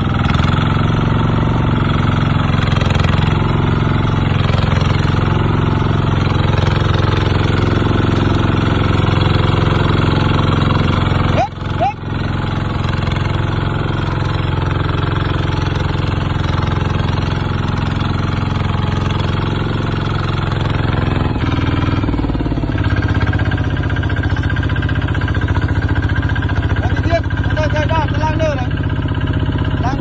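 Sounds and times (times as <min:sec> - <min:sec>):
diesel tractor engine chugging: 0:00.0 - 0:30.0.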